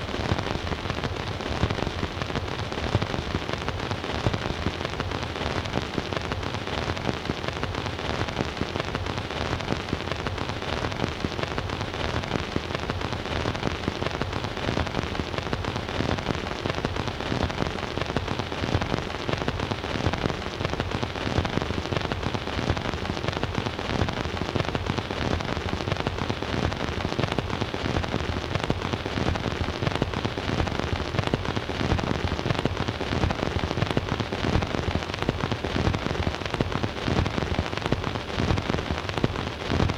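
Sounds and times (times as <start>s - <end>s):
record surface crackle and hiss: 0.0s - 39.9s.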